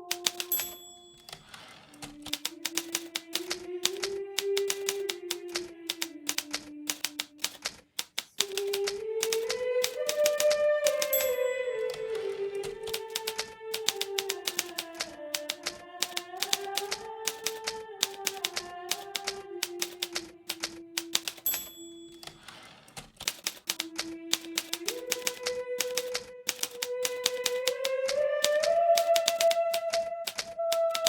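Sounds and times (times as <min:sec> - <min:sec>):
typewriter keys striking: 0:00.0 - 0:31.0.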